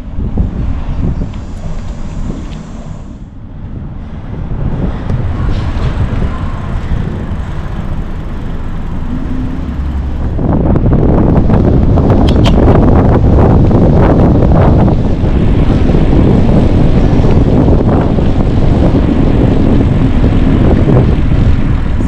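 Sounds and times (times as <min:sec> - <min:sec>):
wind rumbling over microphone: 0:00.0 - 0:22.0.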